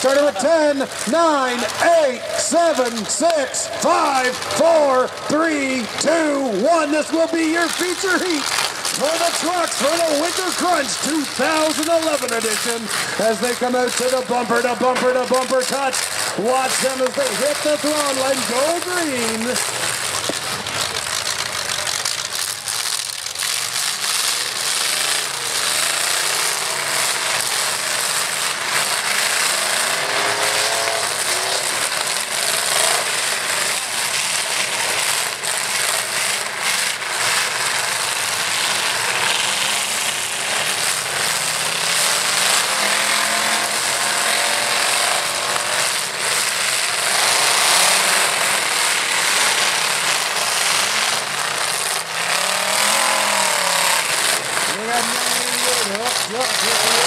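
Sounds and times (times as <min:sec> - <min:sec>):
truck engines revving hard: 0:00.0 - 0:57.0
trucks crashing: 0:00.0 - 0:57.0.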